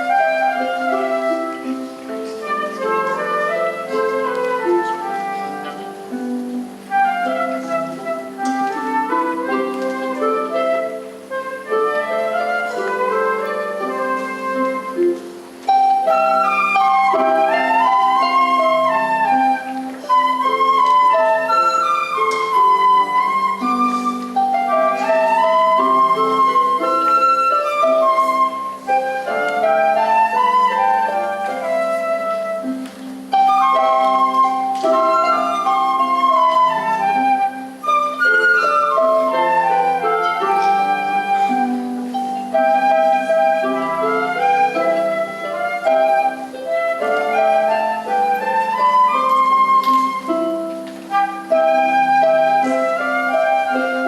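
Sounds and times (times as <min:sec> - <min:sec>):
school band playing: 0:00.0 - 0:54.0.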